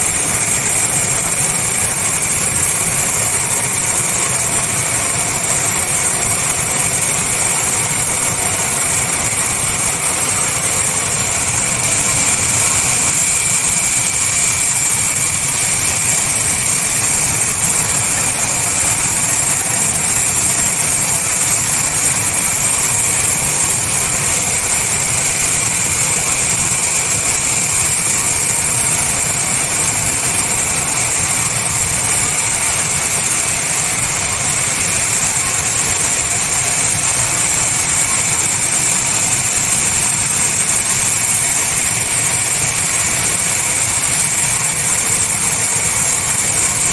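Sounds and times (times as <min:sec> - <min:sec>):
high mechanical whine: 0:00.0 - 0:46.9
sawmill machinery running: 0:00.0 - 0:46.9.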